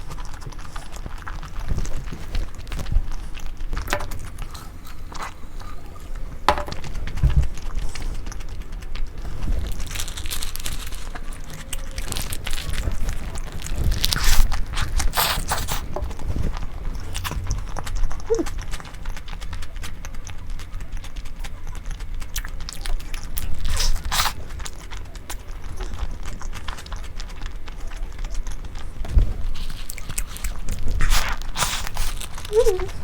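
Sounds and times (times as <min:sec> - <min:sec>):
food being bitten and chewed: 0:00.0 - 0:33.0.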